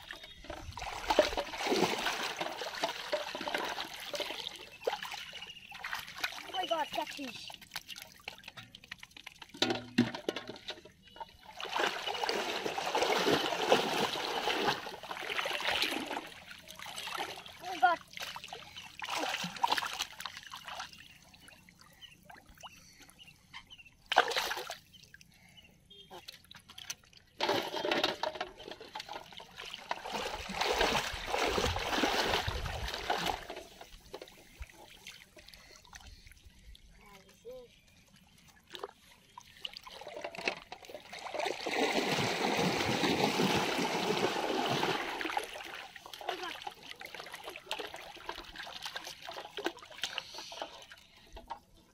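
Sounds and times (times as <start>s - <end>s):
water splashing from wading: 0.0s - 22.8s, 24.0s - 25.3s, 25.9s - 36.8s, 38.5s - 51.5s.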